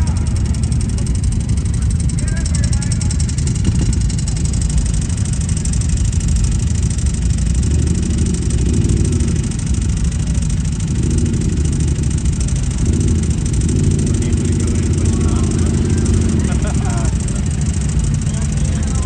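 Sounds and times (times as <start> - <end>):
atv engine rumbling and revving: 0.0 - 19.0.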